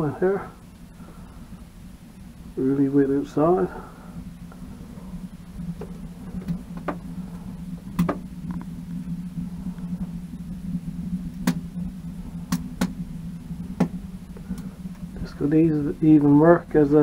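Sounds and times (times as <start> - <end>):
low hum: 0.0 - 17.0
wood fire crackling: 0.0 - 17.0.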